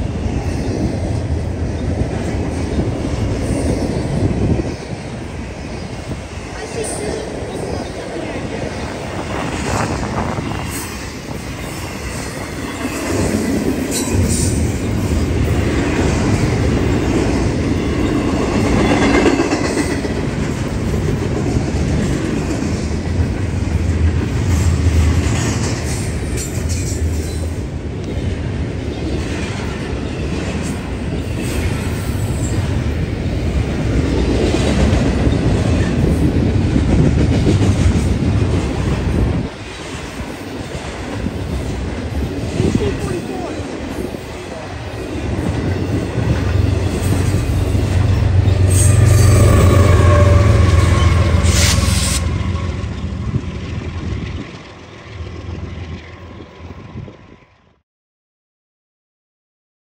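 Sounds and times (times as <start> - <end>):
train wheels rumbling on rails: 0.0 - 57.8.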